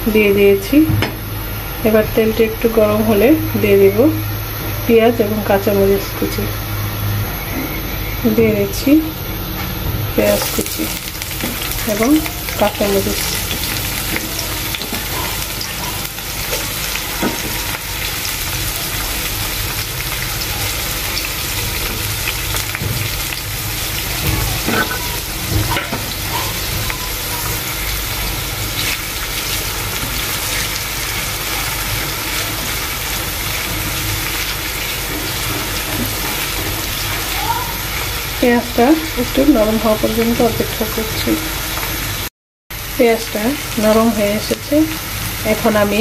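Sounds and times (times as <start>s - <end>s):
onions sizzling in frying pan: 0.0s - 46.0s.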